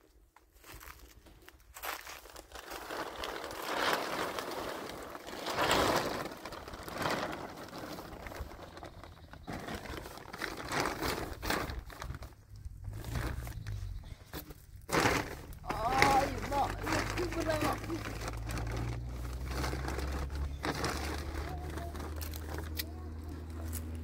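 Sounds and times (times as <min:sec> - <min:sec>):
plastic sheeting rustling: 0:01.9 - 0:24.0.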